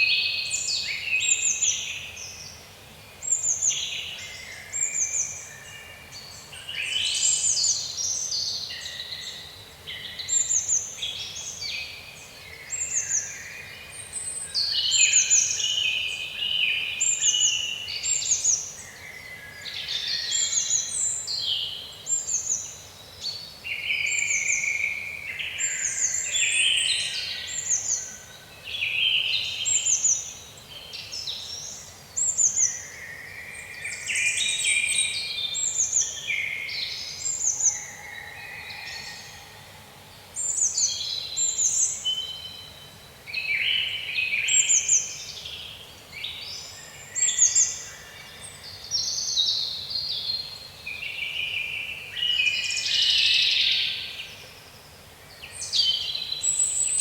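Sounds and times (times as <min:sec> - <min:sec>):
faint steady background hiss: 0:00.0 - 0:57.0
songbirds singing: 0:00.0 - 0:57.0.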